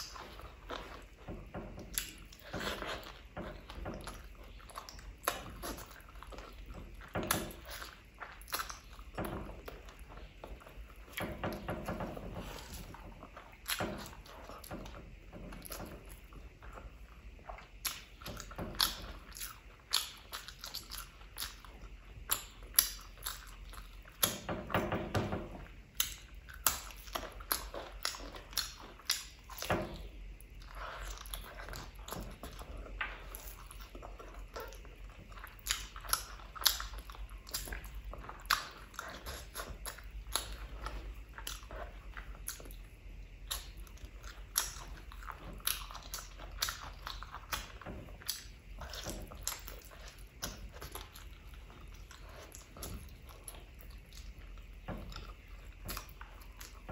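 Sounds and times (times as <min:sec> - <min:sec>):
chewing meat: 0:00.0 - 0:56.9.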